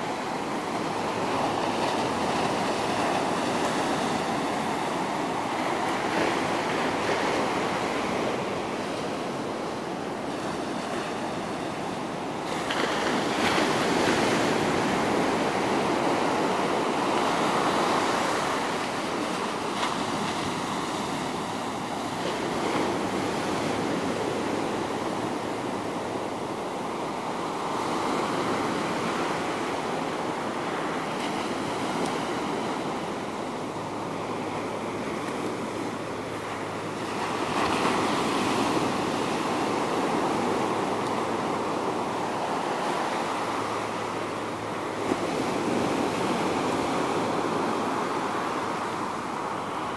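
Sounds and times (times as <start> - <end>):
ocean surf breaking: 0.0 - 49.9.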